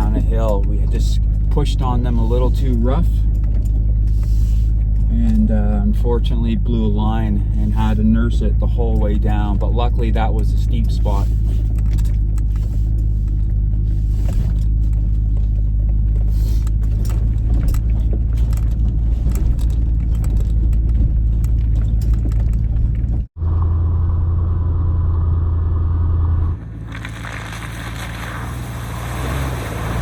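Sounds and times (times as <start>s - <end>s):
steady drone with low hum: 0.0s - 28.3s
vehicle rattles: 0.0s - 30.0s
vehicle rumbling: 0.0s - 30.0s.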